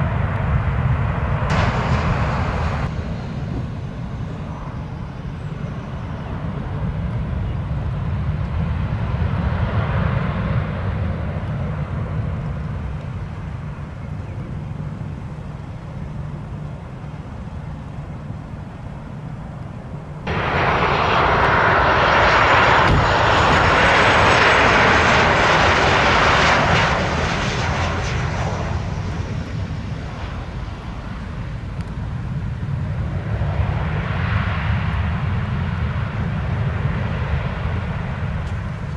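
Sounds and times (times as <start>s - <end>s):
jet engine low rumble: 0.0s - 38.9s
jet engines on approach: 0.0s - 38.9s.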